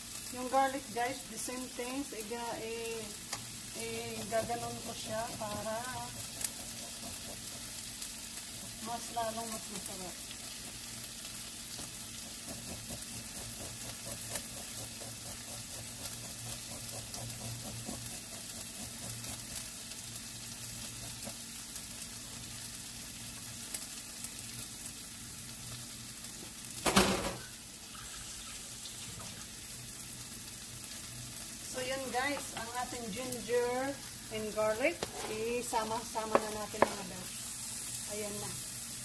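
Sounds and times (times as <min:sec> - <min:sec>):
vegetables sizzling in oil: 0:00.0 - 0:39.0.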